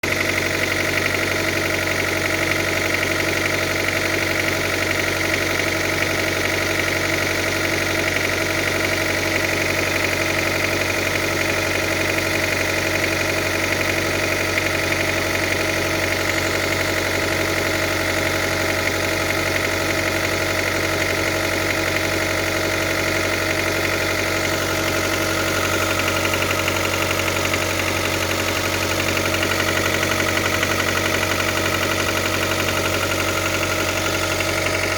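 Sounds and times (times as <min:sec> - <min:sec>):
engine idling with a knock: 0:00.0 - 0:34.9.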